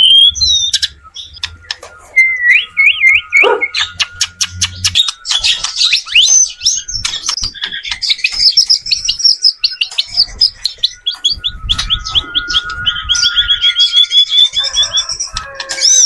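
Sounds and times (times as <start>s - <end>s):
bird singing and trilling: 0.0s - 16.0s.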